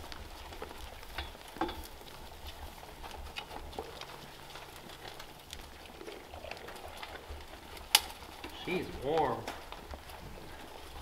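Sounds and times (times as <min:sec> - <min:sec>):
crunching and rustling: 0:00.0 - 0:11.0
goats feeding: 0:00.0 - 0:11.0.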